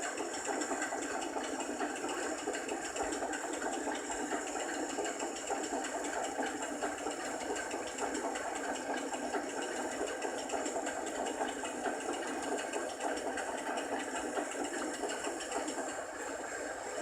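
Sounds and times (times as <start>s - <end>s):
small machine rattling: 0.0s - 17.0s.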